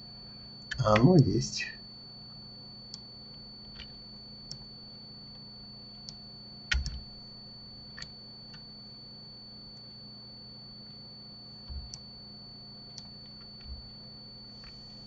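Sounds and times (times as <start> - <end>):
faint high whine: 0.0 - 15.0
steady low hum: 0.0 - 15.0.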